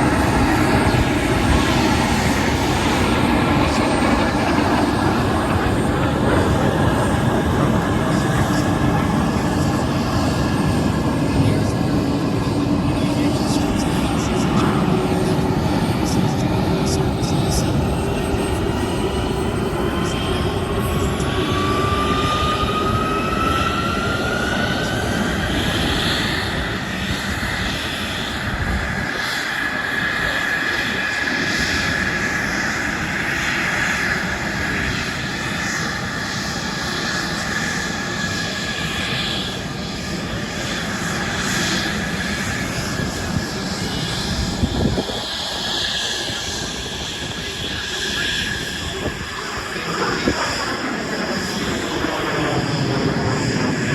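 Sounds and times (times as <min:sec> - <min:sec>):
airplane engine running: 0:00.0 - 0:53.9.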